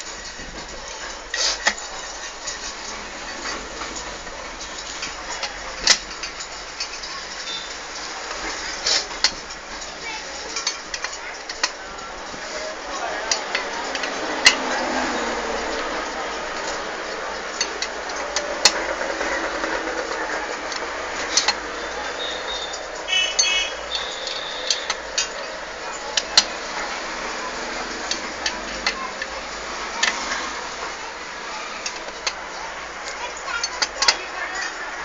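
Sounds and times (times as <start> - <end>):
hand tools clinking on metal: 0.0 - 35.0
steady background noise: 0.0 - 35.0.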